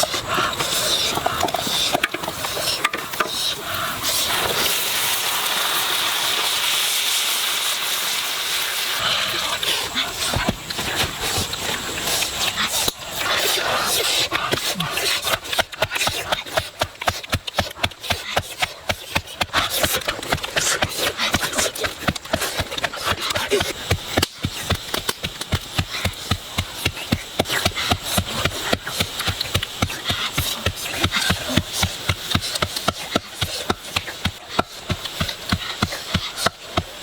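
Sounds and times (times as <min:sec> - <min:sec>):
tool knocking and scraping food: 0:00.0 - 0:03.5, 0:09.8 - 0:37.0.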